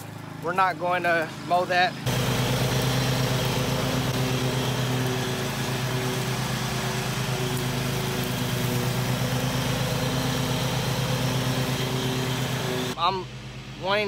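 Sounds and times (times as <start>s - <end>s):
riding mower engine running: 0.0s - 14.0s.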